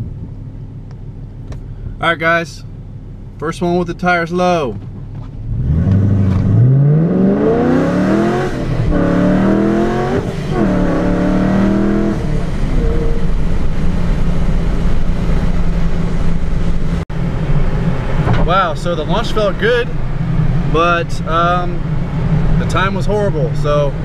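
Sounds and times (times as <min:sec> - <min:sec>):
car engine accelerating: 0:04.8 - 0:24.0.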